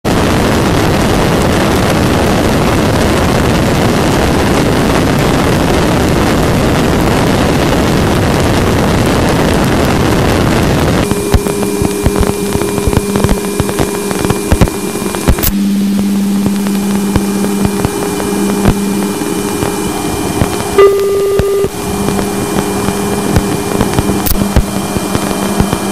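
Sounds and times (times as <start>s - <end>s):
loud dense hiss: 0.1s - 25.9s
steady hums and tones: 0.1s - 25.9s.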